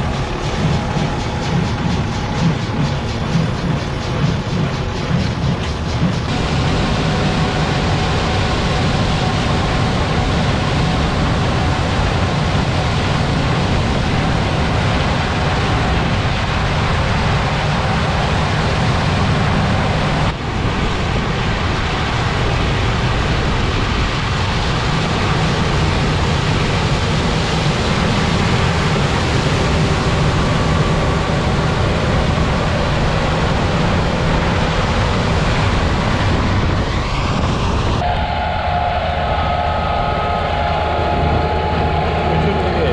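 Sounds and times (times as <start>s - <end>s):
tractor engine droning: 6.2s - 42.9s.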